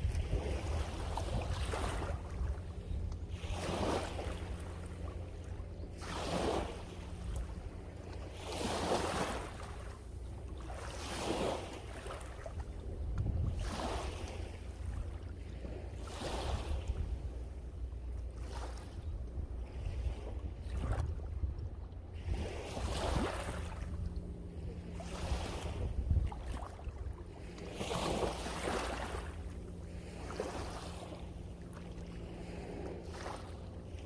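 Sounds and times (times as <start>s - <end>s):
wind rumble on microphone: 0.0s - 34.0s.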